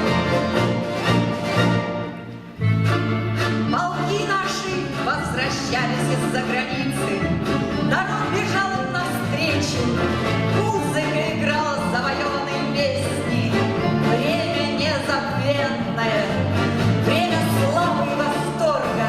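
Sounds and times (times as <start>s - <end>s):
folk instrument orchestra playing: 0.0s - 19.0s.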